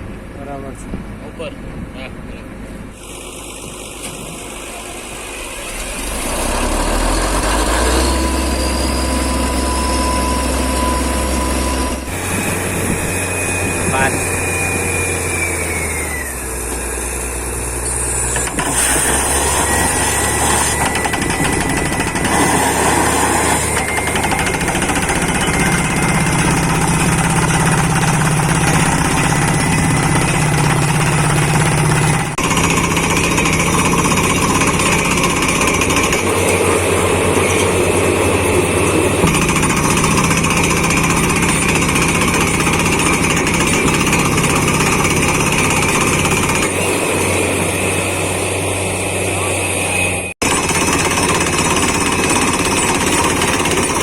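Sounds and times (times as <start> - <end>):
drilling rig engine and compressor: 0.1 - 54.0
percussion hammer pounding: 3.0 - 54.0.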